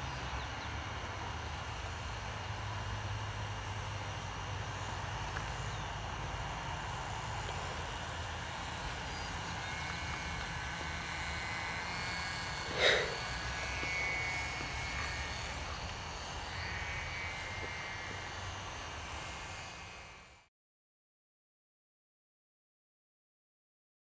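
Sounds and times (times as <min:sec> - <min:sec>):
model airplane engine whine: 0:00.0 - 0:20.5.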